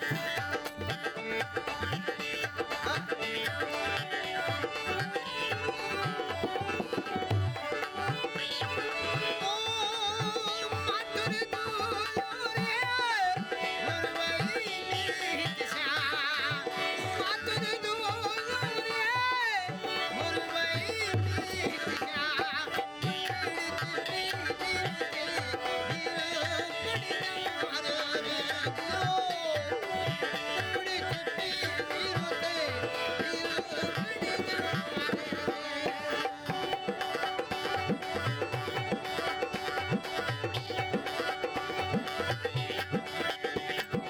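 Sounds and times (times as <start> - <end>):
person singing folk melody: 0.0 - 40.5.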